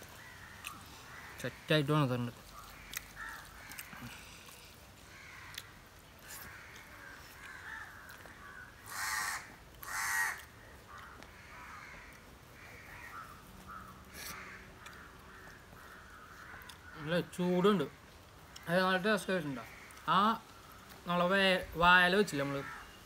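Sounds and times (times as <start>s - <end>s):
loud bird calls: 0.0s - 21.2s, 22.3s - 23.0s
faint bird chatter: 0.0s - 23.0s.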